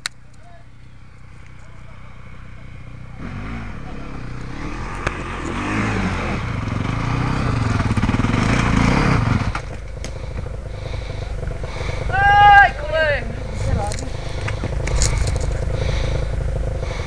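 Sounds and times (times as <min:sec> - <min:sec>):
dirt bike engine revving: 0:00.6 - 0:17.0.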